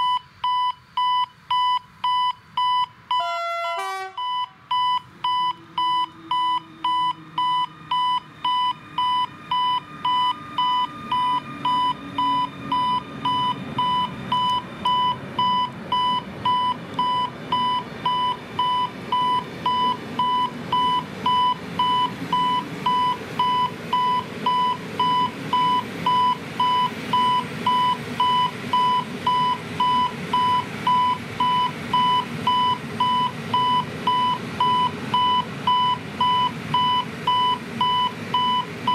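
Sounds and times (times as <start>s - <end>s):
level crossing warning beeps: 0.0s - 38.9s
train running on rails: 1.4s - 38.9s.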